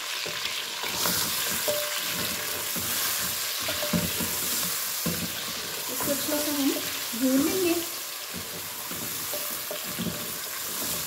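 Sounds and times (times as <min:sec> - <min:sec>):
chicken sizzling in a pot: 0:00.0 - 0:11.0
wooden spatula scraping a pot: 0:00.1 - 0:11.0.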